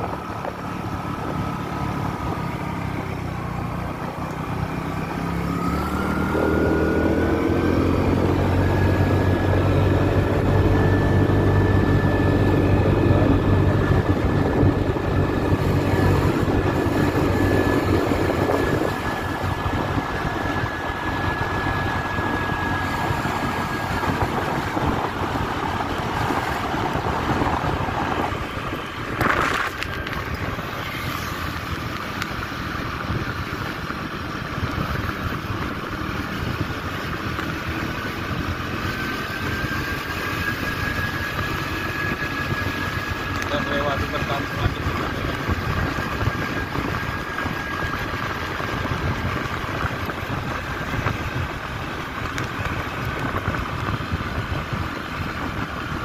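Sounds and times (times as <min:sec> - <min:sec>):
scooter engine running: 0:00.0 - 0:56.0.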